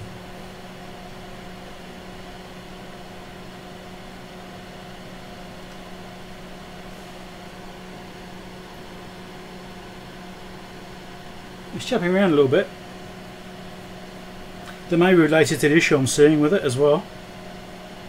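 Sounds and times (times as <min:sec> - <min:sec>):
test equipment hum and hiss: 0:00.0 - 0:18.0.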